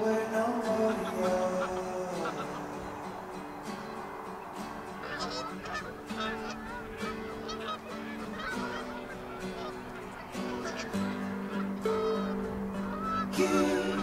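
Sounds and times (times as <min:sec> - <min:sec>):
birds chattering: 0:00.0 - 0:14.0.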